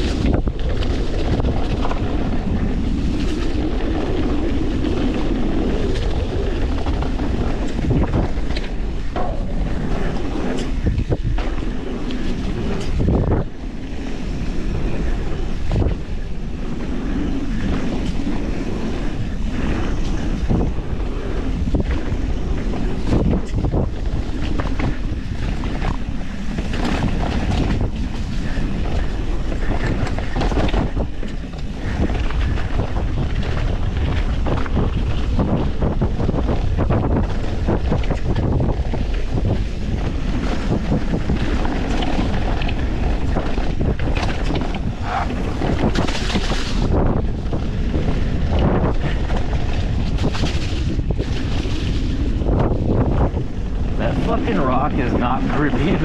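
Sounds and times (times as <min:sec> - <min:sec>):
bike knocks and rattles: 0:00.0 - 0:13.9, 0:15.5 - 0:54.4
tyre rumble: 0:00.0 - 0:56.0
wind buffeting microphone: 0:00.0 - 0:56.0.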